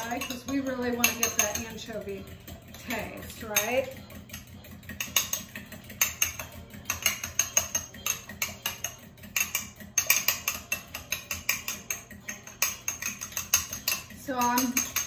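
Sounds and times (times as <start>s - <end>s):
fork clinking against glass: 2.7s - 15.0s.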